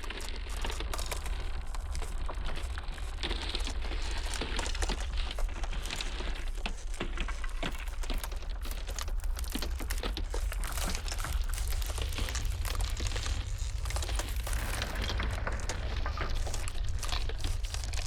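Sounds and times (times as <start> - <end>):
blizzard wind rumble: 0.0 - 18.0
ice cracking and snapping: 0.0 - 18.0.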